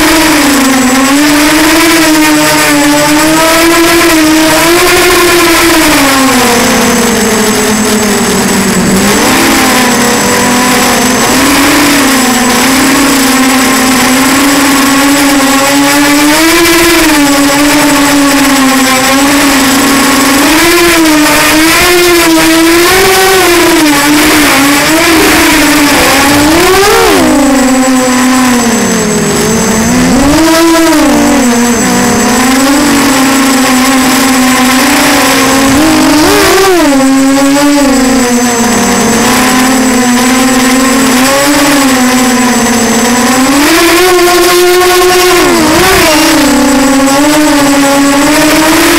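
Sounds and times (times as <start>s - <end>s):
drone motors whining: 0.0s - 48.9s.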